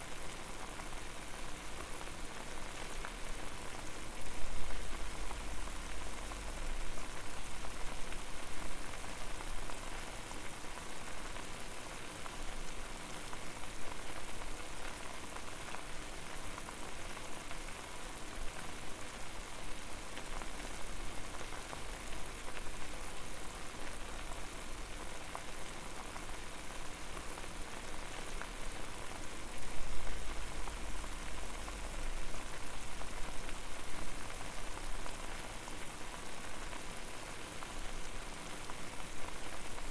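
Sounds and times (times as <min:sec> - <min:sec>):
water boiling and bubbling: 0:00.1 - 0:39.9.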